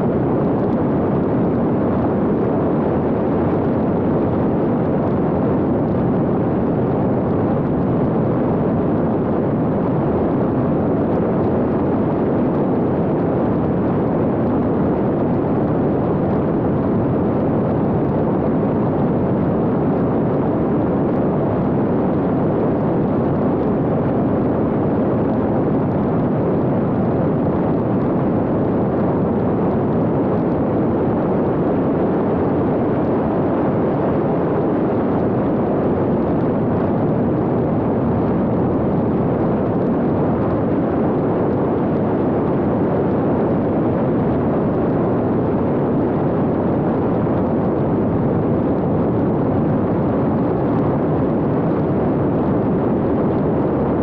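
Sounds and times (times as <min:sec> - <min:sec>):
drone airflow and motor noise: 0:00.0 - 0:54.0.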